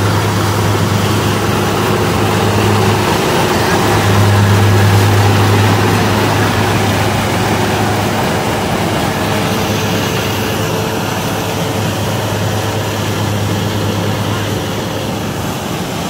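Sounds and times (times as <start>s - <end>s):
combine harvester engine hum: 0.0s - 16.0s
machinery noise: 0.0s - 16.0s.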